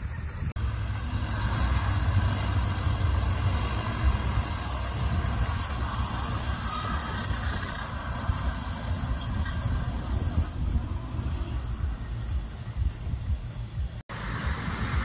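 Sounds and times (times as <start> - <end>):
buggy engine running under load: 0.0 - 15.0.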